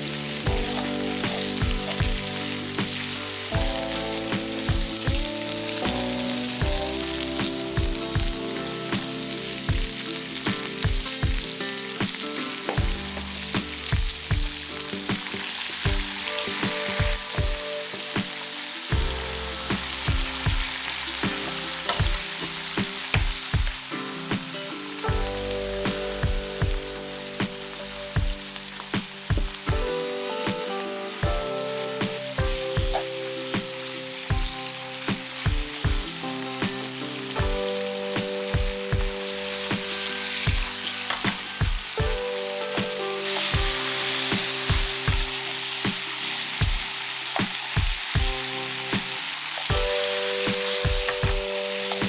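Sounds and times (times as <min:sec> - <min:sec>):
background music: 0:00.0 - 0:52.0
food sizzling in a frying pan: 0:00.0 - 0:52.0.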